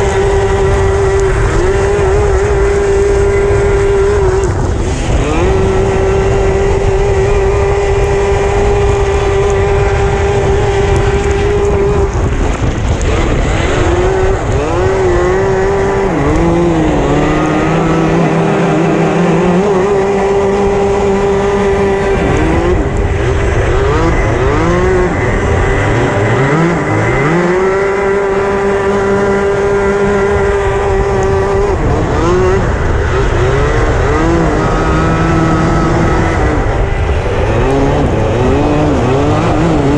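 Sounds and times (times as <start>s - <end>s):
kart engine at high pitch: 0.0s - 39.9s
other kart engines: 0.0s - 39.9s.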